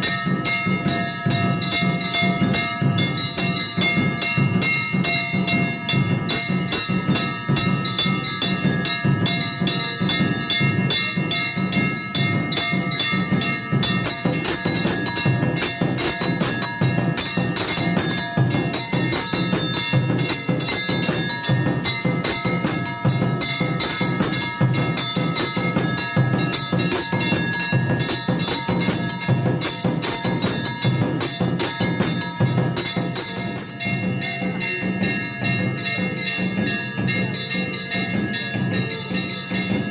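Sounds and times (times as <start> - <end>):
bells ringing rapidly: 0.0 - 39.9
percussion beating: 0.0 - 39.9.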